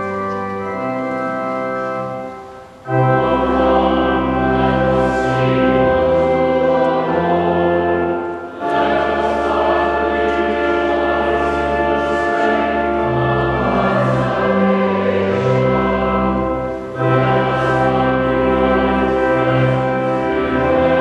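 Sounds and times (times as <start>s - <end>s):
church choir singing chords: 0.0s - 21.0s.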